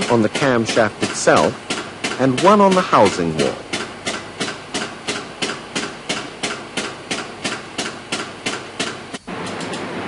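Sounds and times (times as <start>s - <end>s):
steady mechanical clicking: 0.0s - 9.9s.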